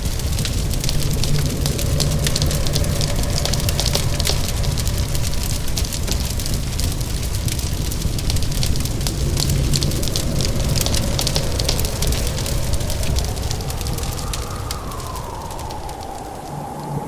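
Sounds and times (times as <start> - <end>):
low rumble: 0.0 - 17.0
steady rain: 0.0 - 17.0
wood fire crackling and popping: 0.0 - 17.0.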